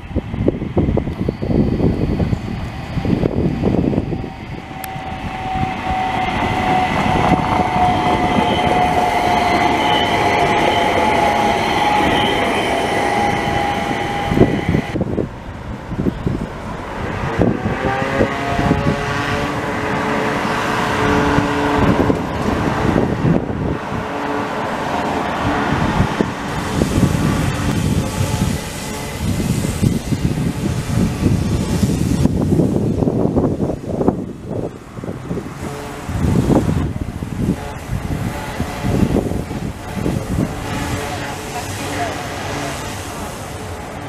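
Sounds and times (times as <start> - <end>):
tram motor whine: 0.0 - 44.0
wheel on rail rumble: 0.0 - 44.0.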